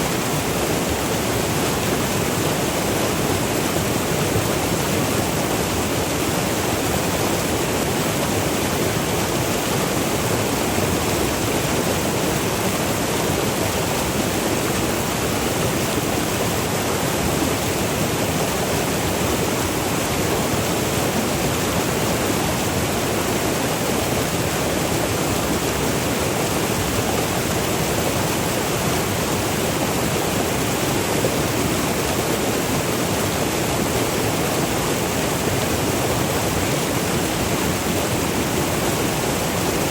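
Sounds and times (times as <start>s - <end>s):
river water rushing over waterfalls: 0.0s - 39.9s.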